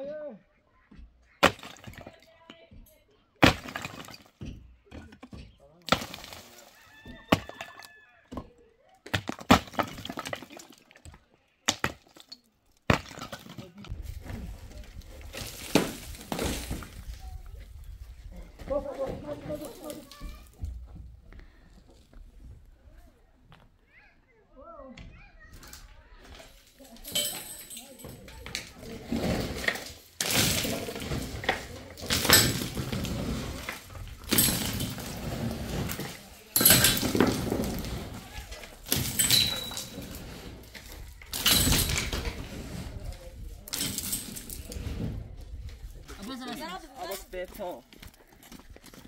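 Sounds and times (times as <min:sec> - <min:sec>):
debris cracking and crashing: 0:01.3 - 0:02.7, 0:03.4 - 0:04.6, 0:05.3 - 0:20.8, 0:25.5 - 0:49.0.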